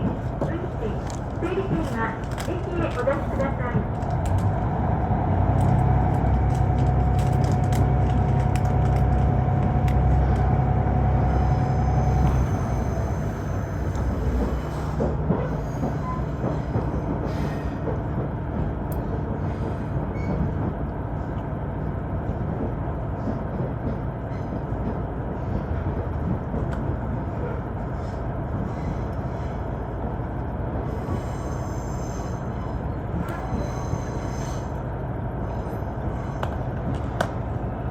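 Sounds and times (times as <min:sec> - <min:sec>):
train wheels rumbling: 0:00.0 - 0:37.9.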